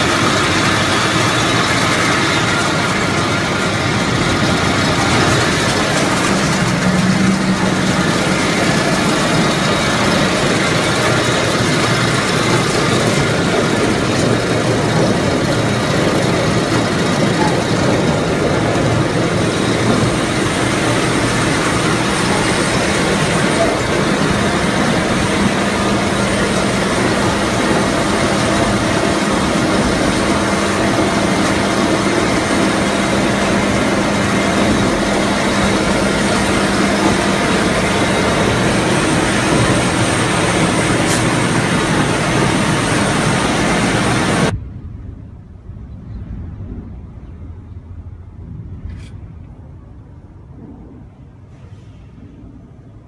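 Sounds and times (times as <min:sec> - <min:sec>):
tub grinder idling drone: 0:00.0 - 0:44.6.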